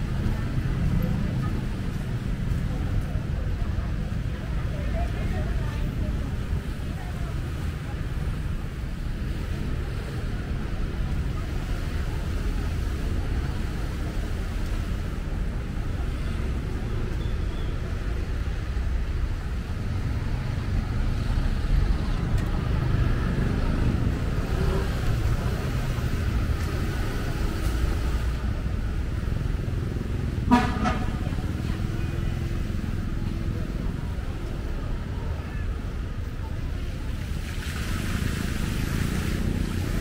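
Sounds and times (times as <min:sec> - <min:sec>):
rumble of passing vehicles: 0:00.0 - 0:40.0.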